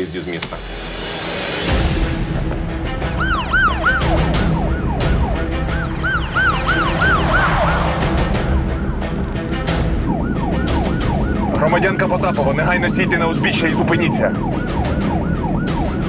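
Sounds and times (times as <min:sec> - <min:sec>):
dramatic background music: 0:00.0 - 0:16.0
siren yelping: 0:03.0 - 0:16.0.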